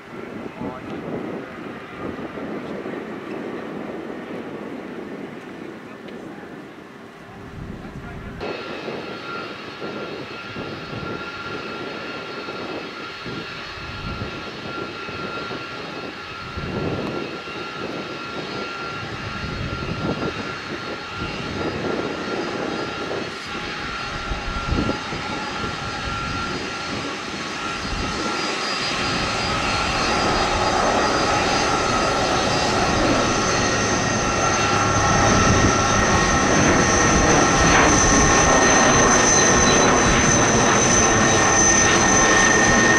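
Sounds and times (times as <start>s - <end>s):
jet engines taxiing: 0.0s - 42.9s.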